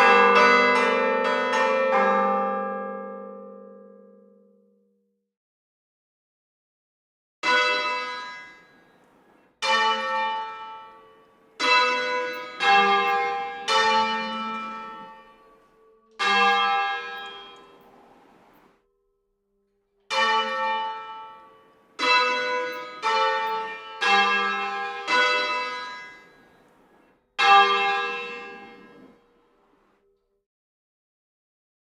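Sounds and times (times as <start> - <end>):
church bell strikes: 0.0 - 4.8, 7.4 - 18.8, 20.1 - 30.2.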